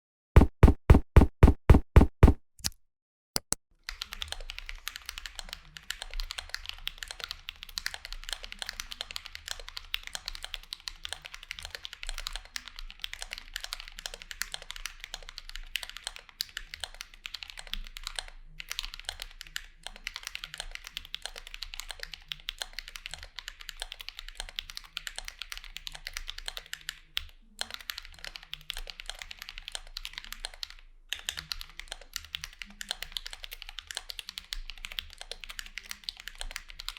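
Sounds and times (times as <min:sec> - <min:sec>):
typing on a mechanical keyboard: 0:03.9 - 0:36.9.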